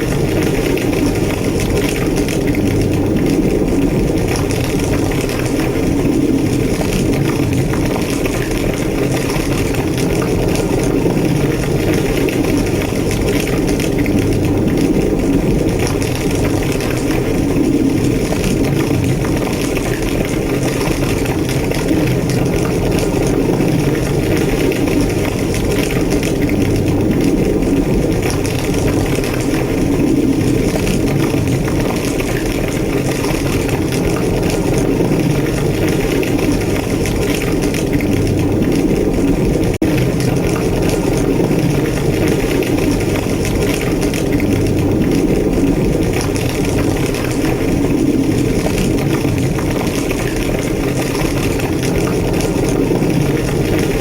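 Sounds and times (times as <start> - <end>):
fire crackling: 0.0 - 54.0
fire roaring: 0.0 - 54.0.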